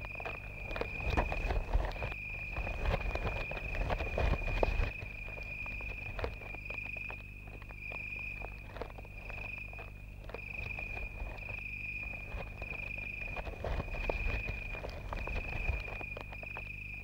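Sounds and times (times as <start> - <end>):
high insect trill: 0.0 - 17.0
soil crackling and scratching: 0.0 - 17.0.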